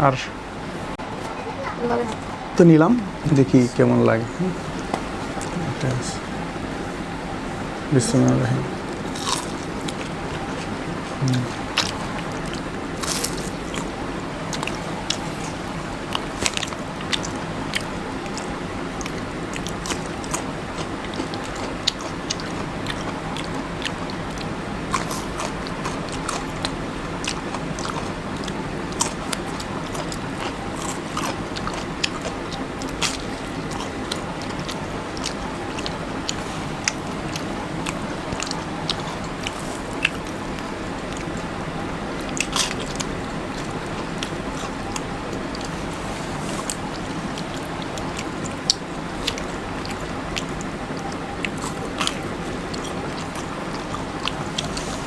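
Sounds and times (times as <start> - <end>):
background hiss: 0.0 - 55.0
person biting and chewing: 8.3 - 55.0.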